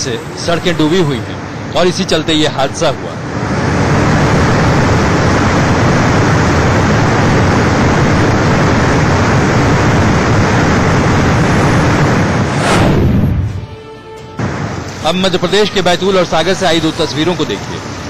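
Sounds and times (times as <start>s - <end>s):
rain and floodwater rushing: 0.0s - 18.0s.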